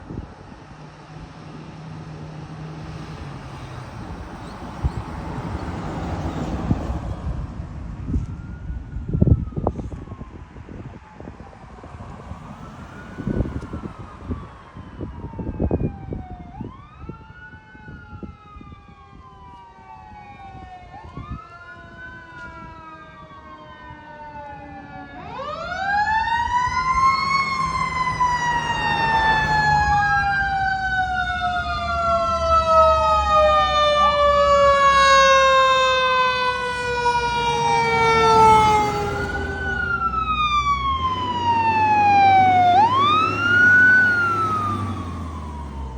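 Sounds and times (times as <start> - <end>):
loud siren with long descent: 0.0 - 45.9
truck engines rumbling: 0.0 - 45.9
siren wailing: 2.9 - 45.9.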